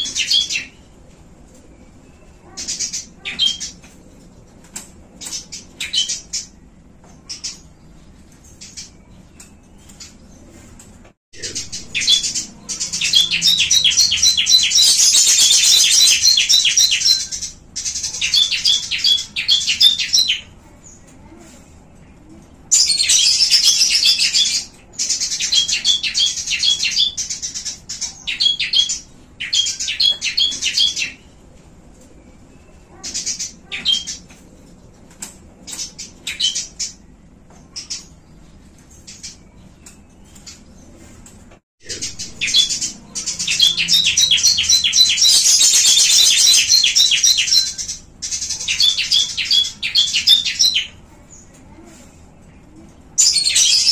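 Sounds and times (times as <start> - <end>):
small birds chattering: 0.0 - 53.9.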